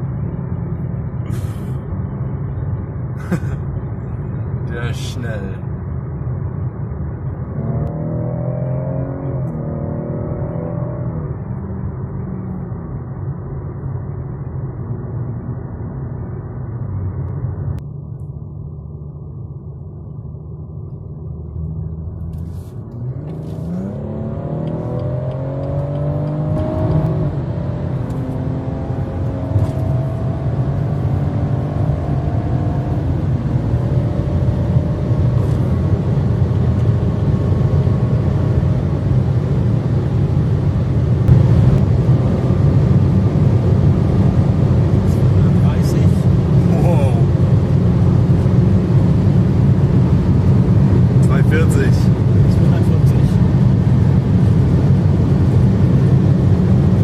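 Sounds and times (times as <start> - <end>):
road and wind noise: 0.0 - 57.0
car engine accelerating: 6.0 - 57.0.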